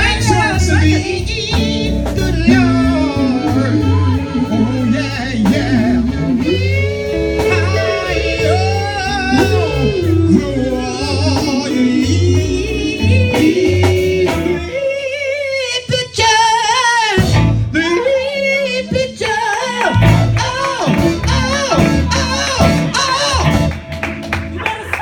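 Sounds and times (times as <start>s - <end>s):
band with steady bass beat: 0.0s - 25.0s
solo voice singing gospel: 0.0s - 25.0s.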